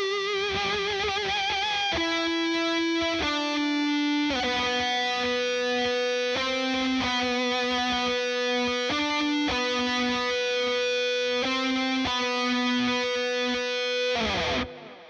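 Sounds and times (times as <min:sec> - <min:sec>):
overdriven electric guitar solo: 0:00.0 - 0:15.0.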